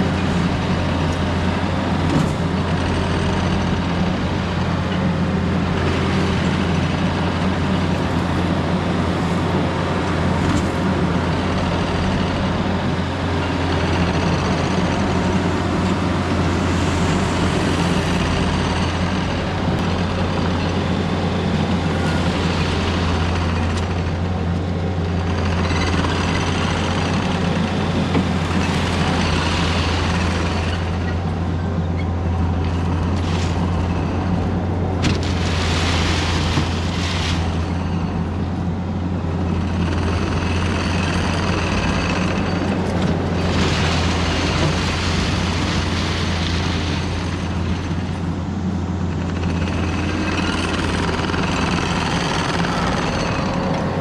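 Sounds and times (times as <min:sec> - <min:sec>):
machine digging rock: 0:00.0 - 0:31.4, 0:32.1 - 0:38.6, 0:39.4 - 0:48.3, 0:49.1 - 0:54.0
earthmoving machine diesel engine: 0:00.0 - 0:54.0.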